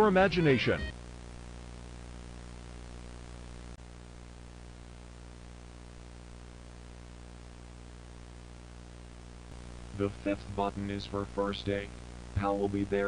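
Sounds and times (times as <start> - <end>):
low buzzing hum: 0.0 - 13.0
tape hiss: 0.0 - 13.0.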